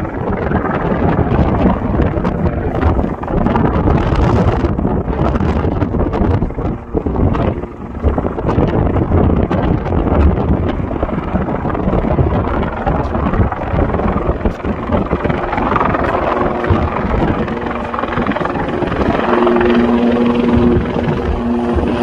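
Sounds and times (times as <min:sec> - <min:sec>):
helicopter engine hum: 0:00.0 - 0:22.0
helicopter rotor rumble: 0:00.0 - 0:22.0.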